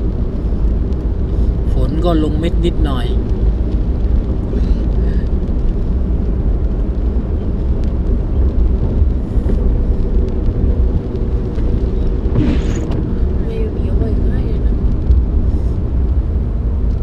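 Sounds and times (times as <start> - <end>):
vehicle rumbling: 0.0 - 17.0.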